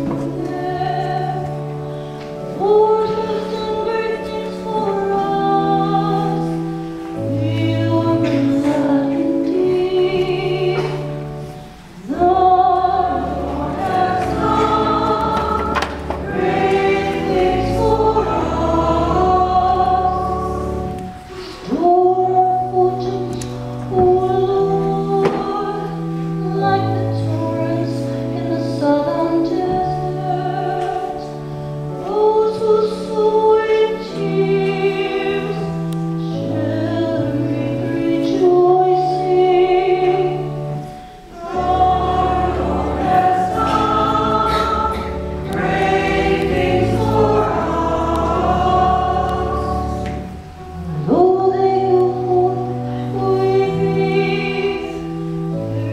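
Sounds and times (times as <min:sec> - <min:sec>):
accompanying chords: 0:00.0 - 0:55.9
choir singing a hymn: 0:00.0 - 0:55.9.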